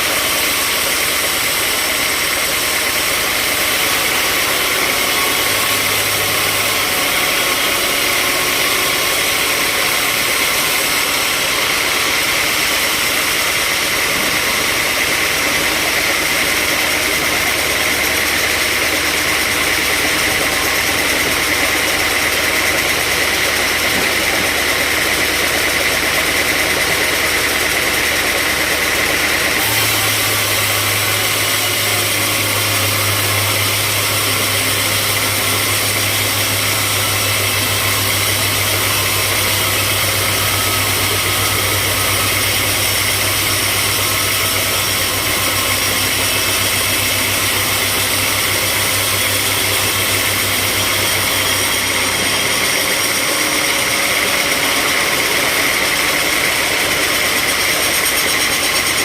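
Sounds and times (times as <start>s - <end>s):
sawmill machinery drone and hiss: 0.0s - 59.0s.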